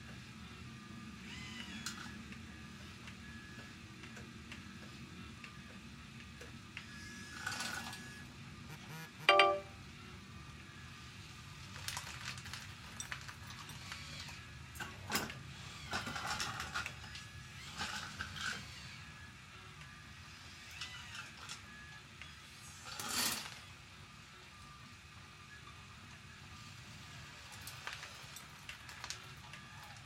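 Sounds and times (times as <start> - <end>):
small electric motors whining: 0.1 - 9.4, 10.0 - 30.0.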